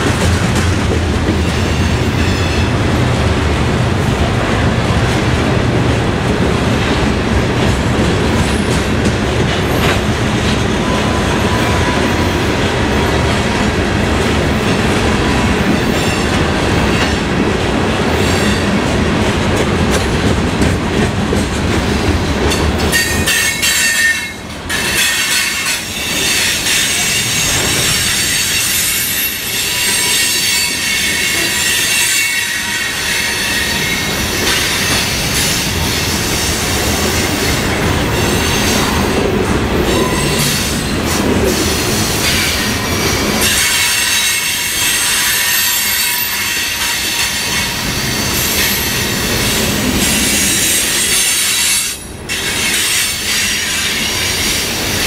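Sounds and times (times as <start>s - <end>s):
train wheels clattering on rail: 0.0s - 55.0s.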